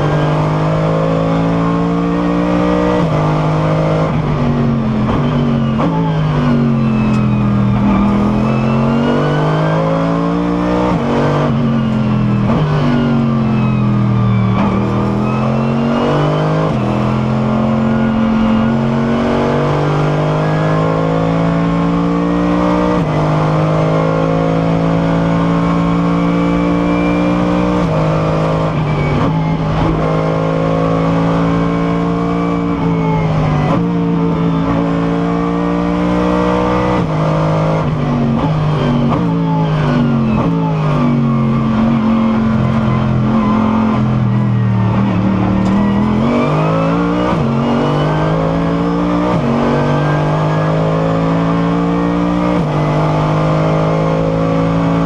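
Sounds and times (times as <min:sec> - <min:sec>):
racing car engine revving: 0:00.0 - 0:55.0.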